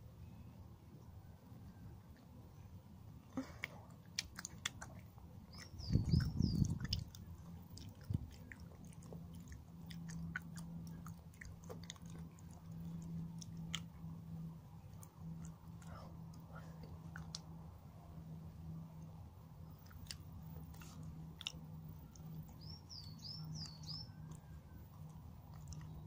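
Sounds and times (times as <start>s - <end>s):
steady low hum: 0.0s - 26.0s
chewing chocolate with mouth clicks: 3.4s - 17.6s, 19.0s - 26.0s.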